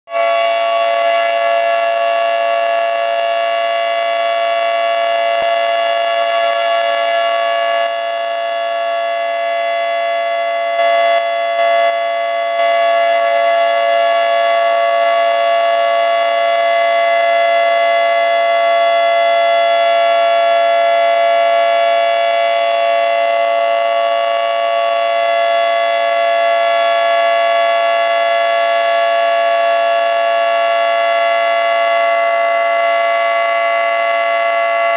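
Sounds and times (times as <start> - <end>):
two-tone warning siren: 0.0 - 34.9.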